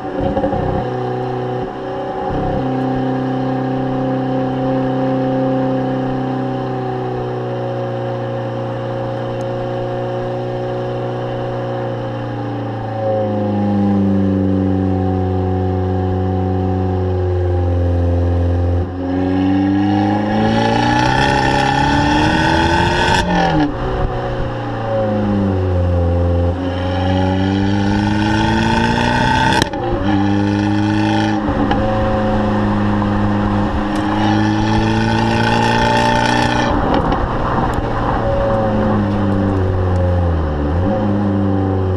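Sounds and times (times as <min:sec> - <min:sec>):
car engine exhaust revving: 0:00.0 - 0:41.9.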